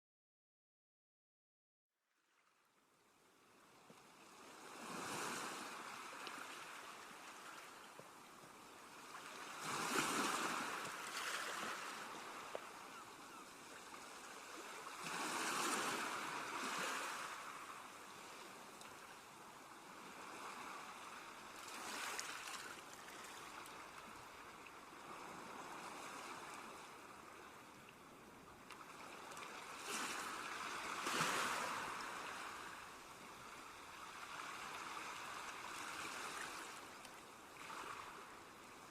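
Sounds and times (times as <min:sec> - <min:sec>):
ocean waves breaking on shore: 0:03.4 - 0:38.9.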